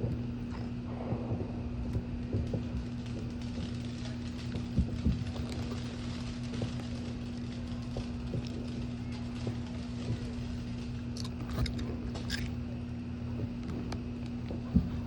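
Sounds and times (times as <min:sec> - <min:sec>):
distant fireworks popping: 0:00.0 - 0:15.0
low mechanical hum: 0:00.0 - 0:15.0.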